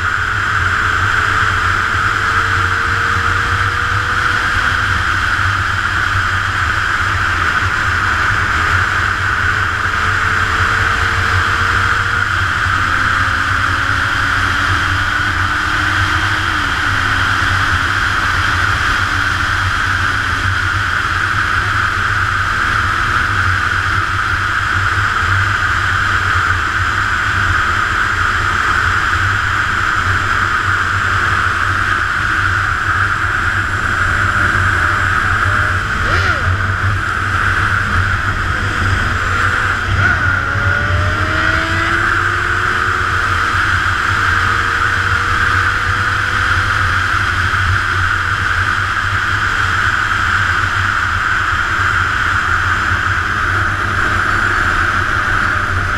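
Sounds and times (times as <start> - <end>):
motorcycle engine drone: 0.0 - 55.9
wind rushing over microphone: 0.0 - 55.9.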